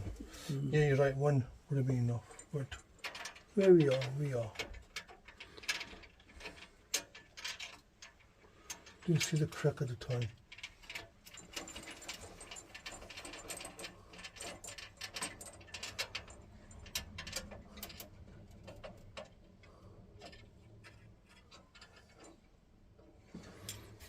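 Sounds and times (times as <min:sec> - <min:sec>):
small metallic clicks and ticks: 0:01.8 - 0:24.0.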